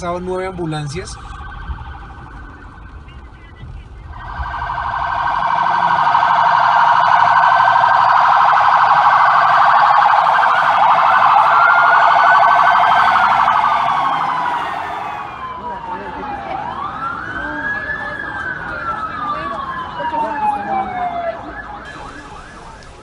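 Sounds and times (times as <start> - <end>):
ambulance siren warbling: 0.0 - 23.0
low traffic rumble: 0.0 - 23.0
siren wailing: 0.8 - 3.5, 4.1 - 23.0.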